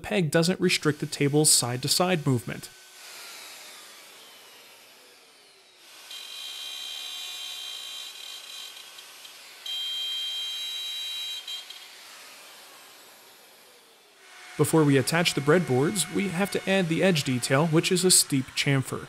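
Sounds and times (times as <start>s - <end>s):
router motor whining: 0.5s - 19.0s.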